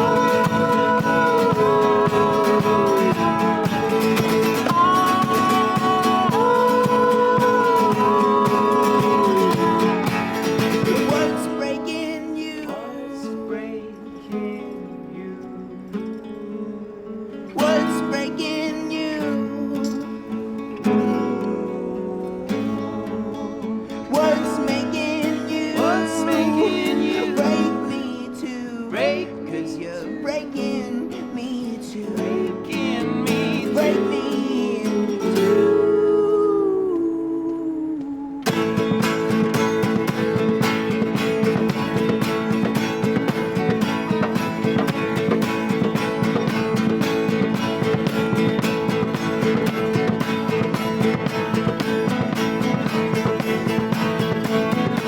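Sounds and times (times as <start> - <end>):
strummed acoustic guitar: 0.0 - 55.0.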